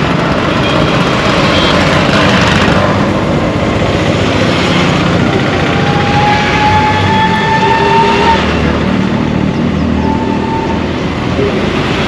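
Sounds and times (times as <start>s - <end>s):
heavy road traffic: 0.0s - 12.0s.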